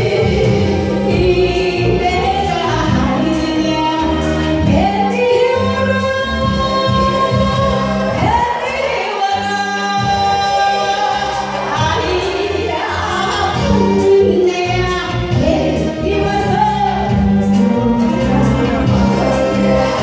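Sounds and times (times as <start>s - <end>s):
amplified backing music: 0.0s - 20.0s
woman singing: 0.0s - 20.0s.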